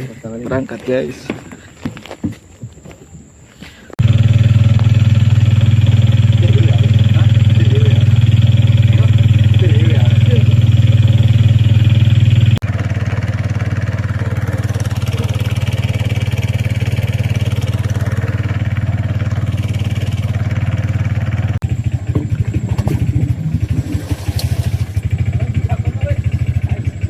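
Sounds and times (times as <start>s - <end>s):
small engine humming: 4.0s - 27.0s.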